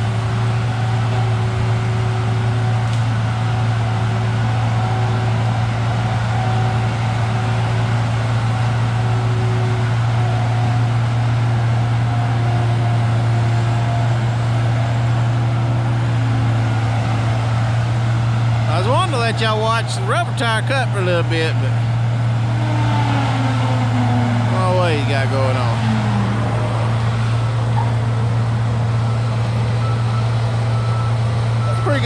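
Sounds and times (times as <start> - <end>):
diesel engine droning: 0.0 - 32.0.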